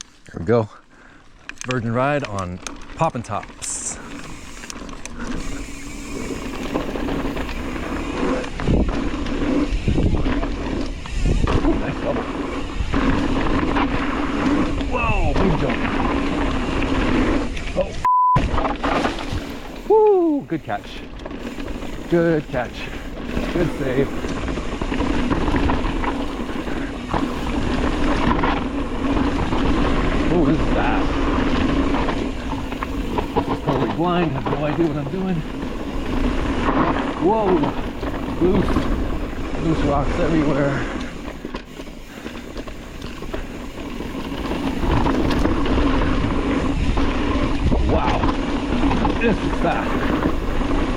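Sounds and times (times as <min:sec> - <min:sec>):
bike rattling: 0:00.0 - 0:50.9
bike tyres on dirt and rock: 0:00.0 - 0:50.9
wind rushing over microphone: 0:03.6 - 0:50.9.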